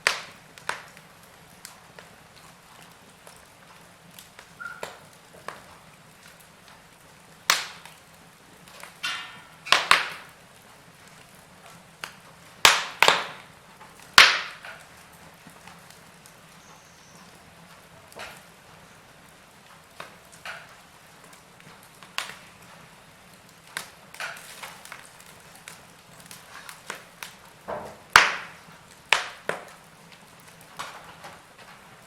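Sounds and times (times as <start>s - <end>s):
low steady hiss: 0.0s - 32.0s
wood fire crackling: 0.0s - 32.0s.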